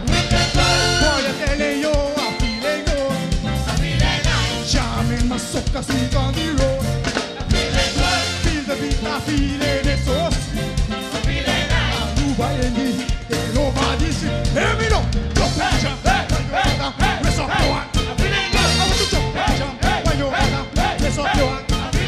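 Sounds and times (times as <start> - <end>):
live band music with driving beat: 0.0 - 22.0.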